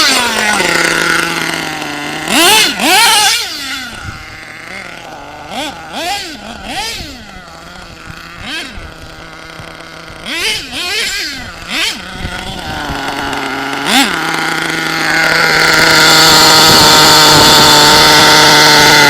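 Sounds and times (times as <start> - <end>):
model truck engine revving: 0.0 - 19.0.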